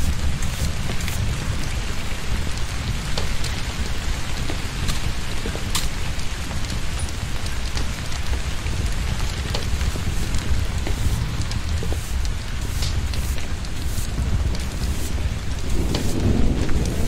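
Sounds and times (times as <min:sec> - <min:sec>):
torrential rain: 0:00.0 - 0:17.0.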